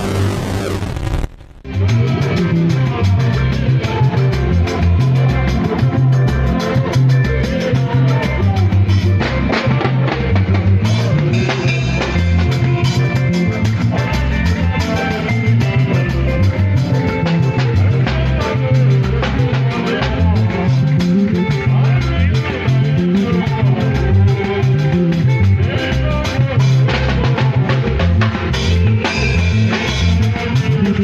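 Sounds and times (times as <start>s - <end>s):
band playing highlife music: 0.0s - 31.0s
electric bass line: 0.0s - 31.0s.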